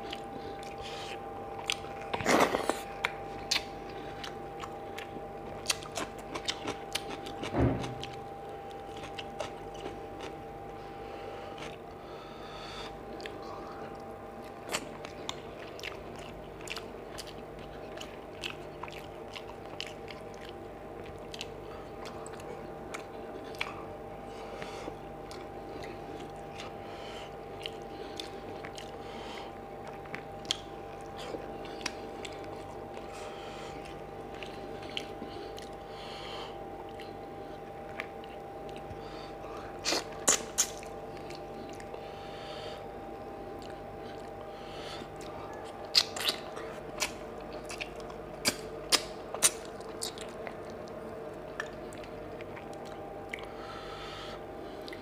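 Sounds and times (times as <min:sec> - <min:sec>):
chewing and wet mouth smacks: 0:00.0 - 0:10.4, 0:12.8 - 0:35.9, 0:36.8 - 0:42.1, 0:43.5 - 0:53.6, 0:54.8 - 0:55.0
faint steady hum: 0:00.0 - 0:55.0.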